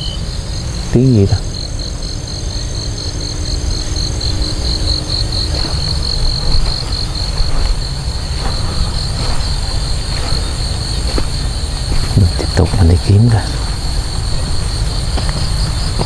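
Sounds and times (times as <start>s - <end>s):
insects trilling: 0.0s - 16.0s
low rumble: 0.0s - 16.0s.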